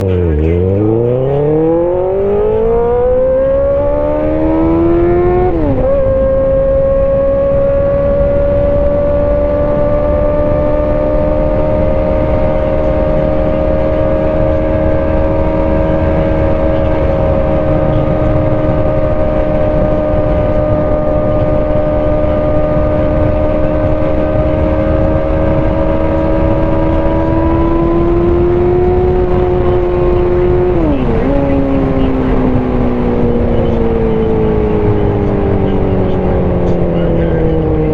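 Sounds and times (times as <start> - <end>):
motorcycle engine revving: 0.0 - 37.9
wind rush: 0.7 - 37.9.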